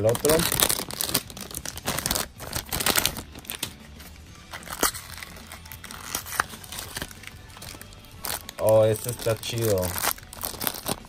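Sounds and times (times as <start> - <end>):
foil packet crinkling and tearing: 0.0 - 3.8, 4.5 - 11.0.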